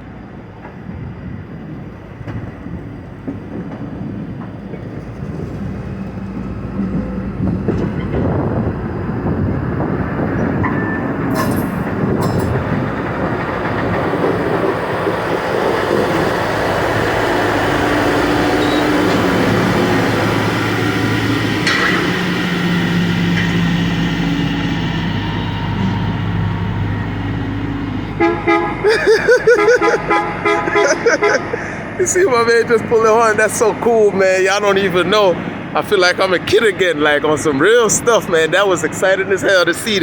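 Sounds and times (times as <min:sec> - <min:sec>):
freight train wagons rumbling: 0:00.0 - 0:40.0.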